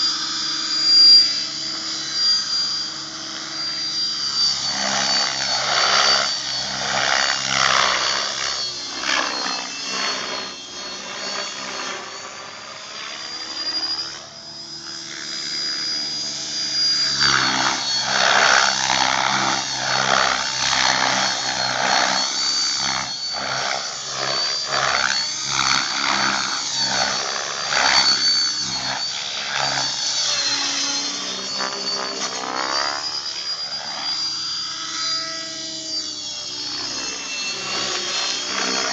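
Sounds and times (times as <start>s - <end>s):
electric motor whine: 0.0s - 38.9s
rotor blades swishing: 0.1s - 14.2s, 15.1s - 35.6s, 36.4s - 38.9s.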